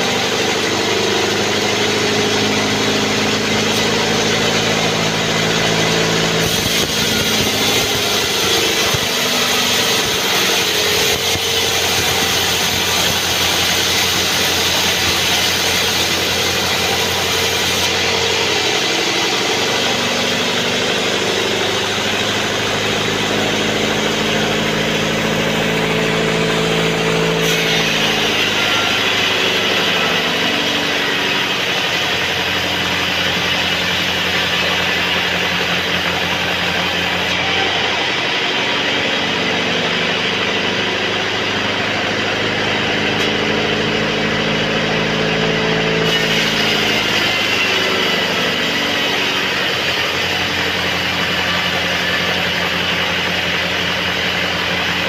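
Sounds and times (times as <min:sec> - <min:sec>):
band saw and engine running: 0:00.0 - 0:55.0
saw blade cutting wood: 0:00.0 - 0:55.0.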